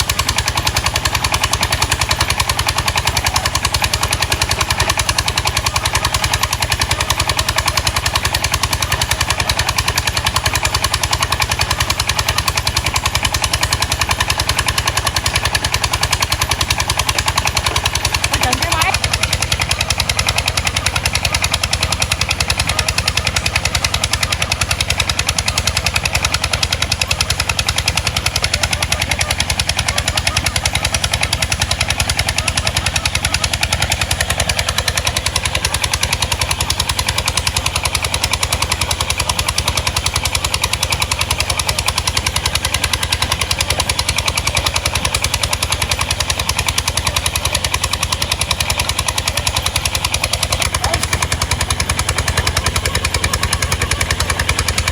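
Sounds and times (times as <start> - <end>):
boat engine chugging: 0.0 - 54.9.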